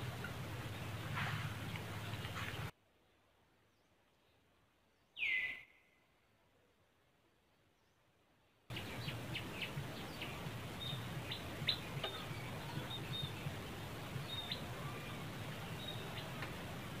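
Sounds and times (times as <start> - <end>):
birds chirping: 0.0 - 2.7, 3.6 - 6.4, 7.8 - 17.0.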